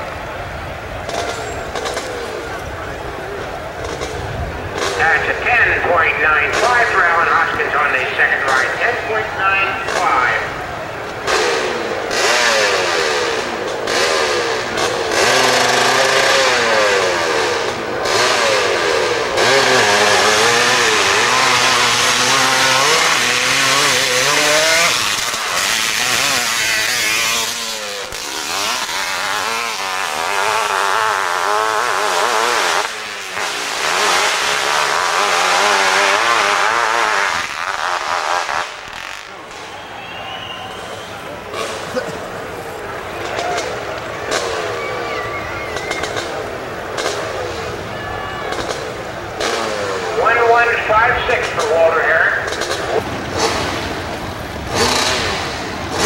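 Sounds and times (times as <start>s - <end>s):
motorcycle engine revving hard: 0.0s - 39.7s, 40.6s - 56.0s.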